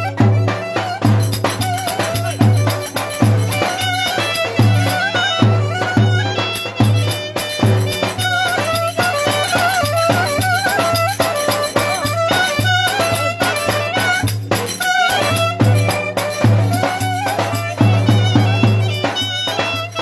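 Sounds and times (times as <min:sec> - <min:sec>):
folk dance music by a band: 0:00.0 - 0:20.0.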